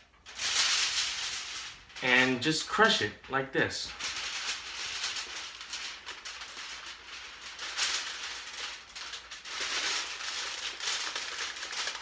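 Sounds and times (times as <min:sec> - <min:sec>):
aluminum foil crinkling: 0:00.0 - 0:12.0.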